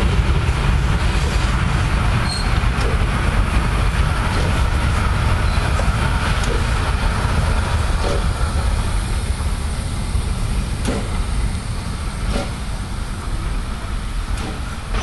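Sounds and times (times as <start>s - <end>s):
steam locomotive rumbling past: 0.0s - 15.0s.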